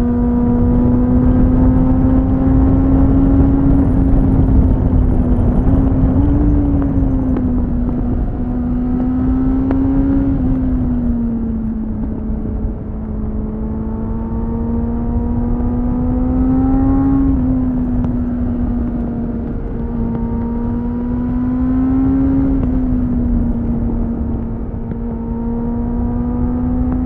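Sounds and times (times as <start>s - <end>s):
motorcycle engine running: 0.0s - 27.0s
wind rush on microphone: 0.0s - 27.0s.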